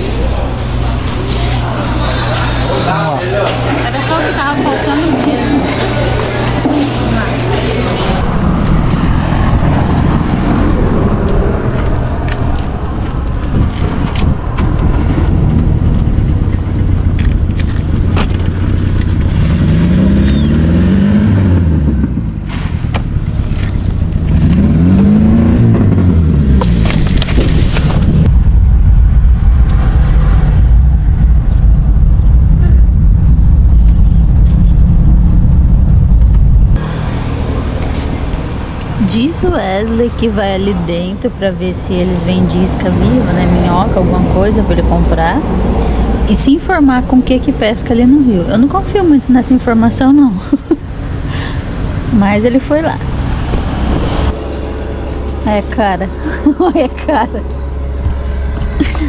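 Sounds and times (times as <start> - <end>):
van engine rumbling and revving: 0.0 - 59.0.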